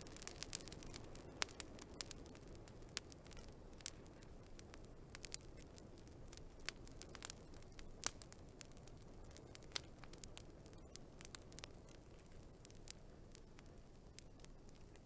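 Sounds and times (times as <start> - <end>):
faint low rumble of burning: 0.0 - 15.0
fire pops and snaps: 0.0 - 15.0
wood fire crackling: 0.0 - 15.0.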